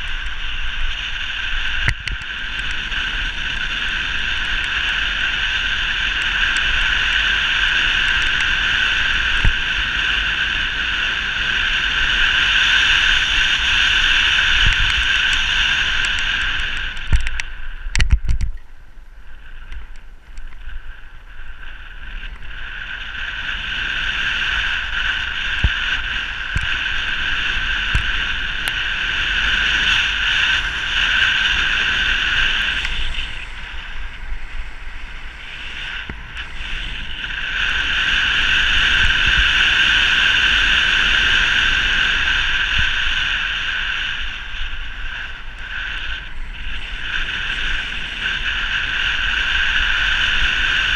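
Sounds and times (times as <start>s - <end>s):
low road rumble: 0.0s - 50.9s
wind rushing over microphone: 0.0s - 50.9s.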